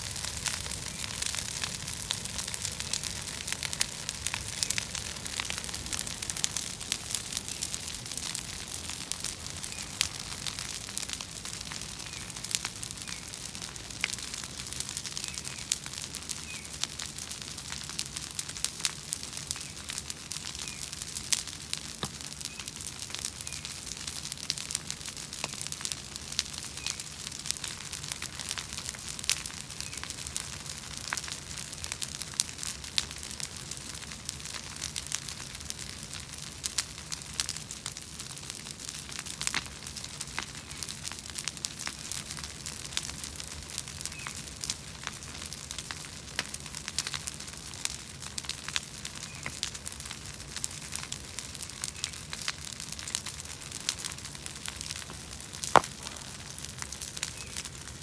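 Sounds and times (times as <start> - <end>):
bonfire crackling with sharp pops: 0.0 - 58.0.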